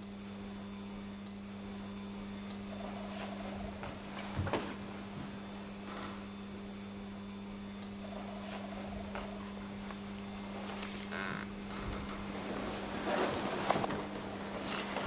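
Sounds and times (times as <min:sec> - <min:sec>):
steady low hum: 0:00.0 - 0:15.0
thin high whine: 0:00.0 - 0:15.0.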